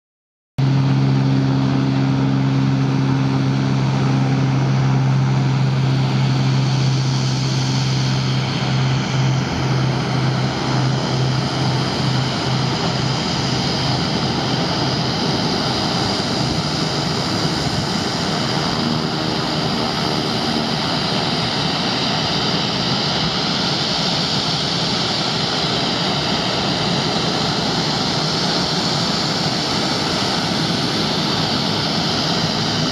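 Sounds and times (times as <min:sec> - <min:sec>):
propeller plane engine droning: 0:00.6 - 0:32.9
steady rushing noise: 0:00.6 - 0:32.9.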